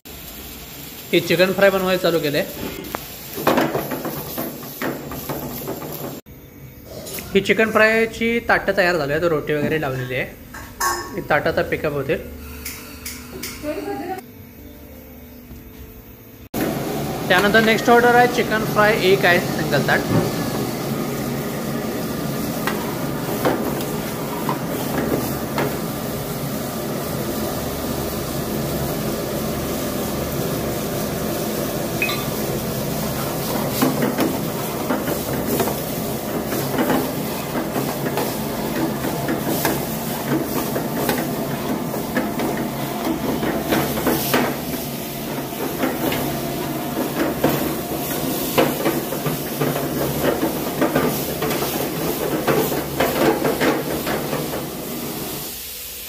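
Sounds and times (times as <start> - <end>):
food sizzling in pan: 0.0 - 7.9, 16.0 - 56.0.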